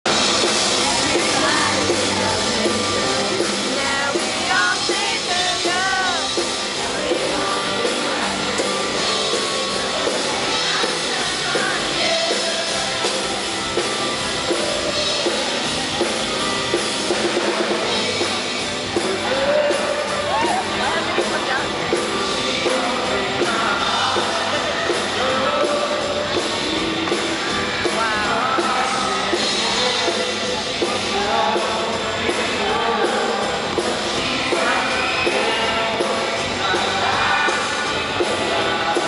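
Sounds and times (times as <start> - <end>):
drum kit: 0.0 - 39.0
live pop-rock band: 0.0 - 39.0
person singing: 0.1 - 39.0.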